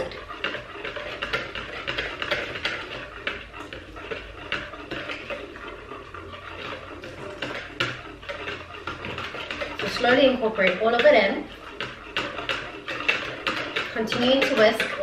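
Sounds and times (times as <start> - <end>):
wire whisk beating in a bowl: 0.0 - 15.0.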